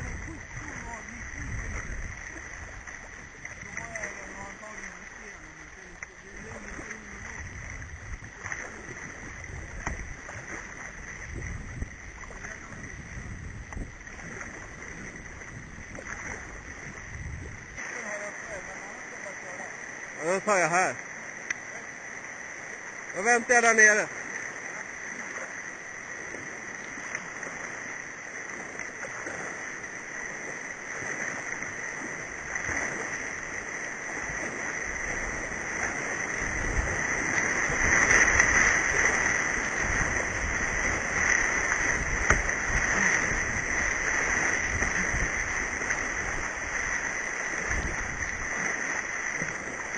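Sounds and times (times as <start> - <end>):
whitewater rapids rushing: 0.0 - 12.9, 17.8 - 49.9
low knocks of waves: 0.0 - 49.9
water splashing against kayak: 0.0 - 49.9.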